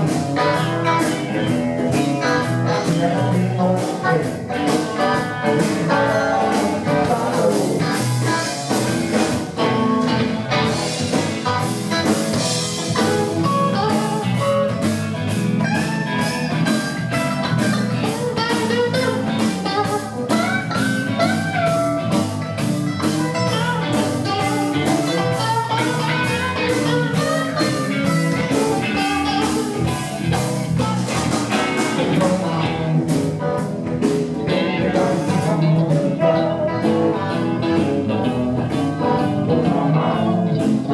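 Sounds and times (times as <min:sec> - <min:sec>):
live blues band: 0:00.0 - 0:40.9.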